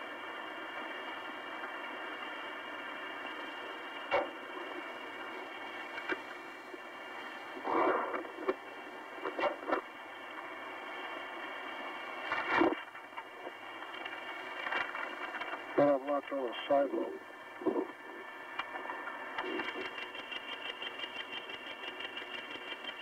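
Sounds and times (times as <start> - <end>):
faint steady tones: 0.0 - 23.0
muffled tape hiss: 0.0 - 23.0
crackles and noisy bursts: 0.1 - 10.5, 11.3 - 23.0.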